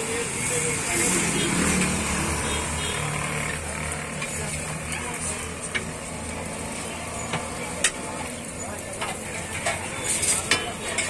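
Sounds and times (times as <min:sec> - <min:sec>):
bread deep-frying in oil: 0:00.0 - 0:11.0.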